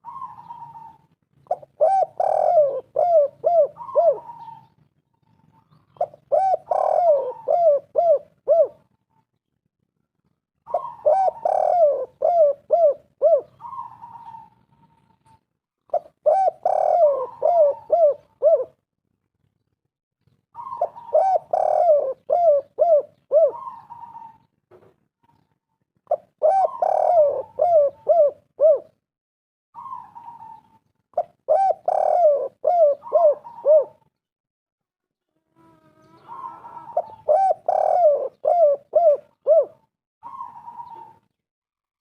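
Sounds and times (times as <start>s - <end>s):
dove cooing: 0.0s - 9.0s, 10.7s - 18.8s, 20.6s - 24.5s, 25.2s - 29.0s, 29.8s - 34.1s, 35.6s - 41.4s.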